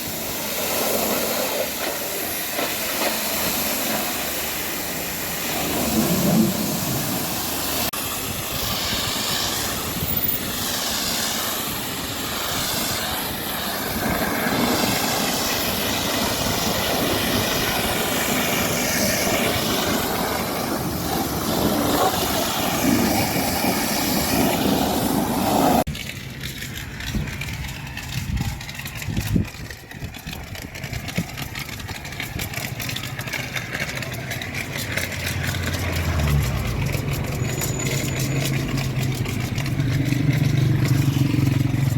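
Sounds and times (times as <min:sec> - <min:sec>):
pressure washer spraying: 0:00.0 - 0:41.9
low engine hum: 0:05.2 - 0:41.9.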